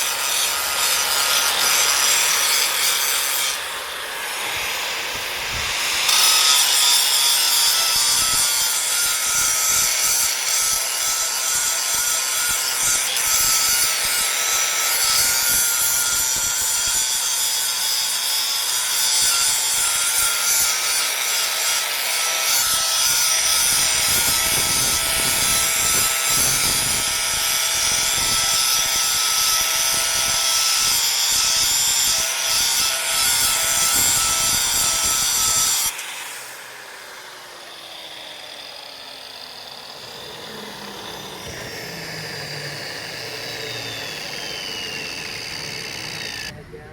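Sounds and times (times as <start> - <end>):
power grinder grinding: 0.0 - 46.9.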